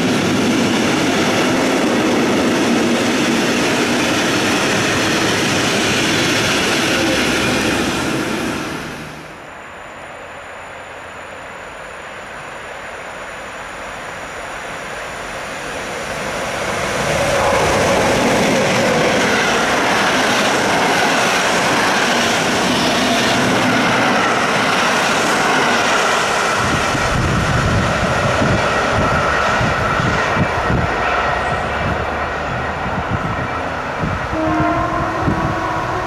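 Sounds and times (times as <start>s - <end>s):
train wheels rushing on rails: 0.0s - 9.4s, 10.6s - 36.0s
low rumbling of train: 0.0s - 36.0s.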